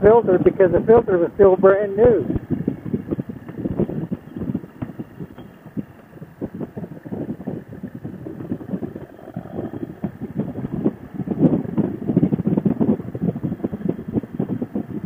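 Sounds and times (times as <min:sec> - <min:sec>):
wind buffeting microphone: 0:00.0 - 0:15.0
motorcycle engine: 0:01.8 - 0:15.0.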